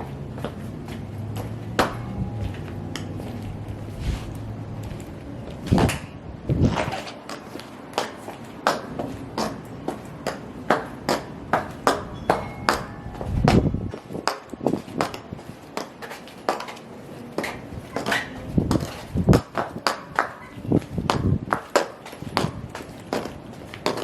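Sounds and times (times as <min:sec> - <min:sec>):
high heels clicking on hard surface: 0:00.0 - 0:24.0.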